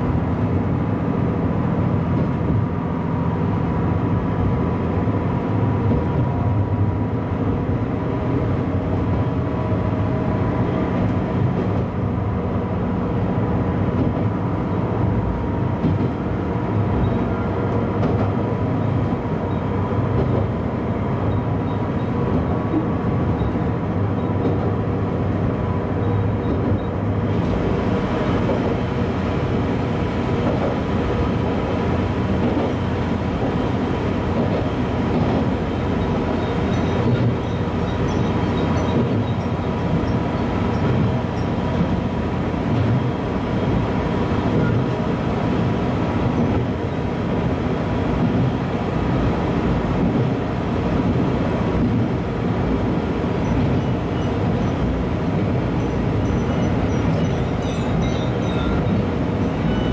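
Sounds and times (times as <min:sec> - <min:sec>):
diesel railcar running: 0:00.0 - 0:59.9.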